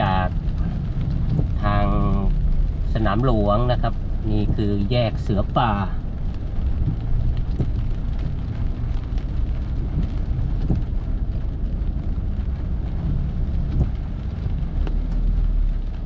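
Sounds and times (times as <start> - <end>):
car driving on a wet road: 0.0 - 16.0
rain hissing: 0.0 - 16.0.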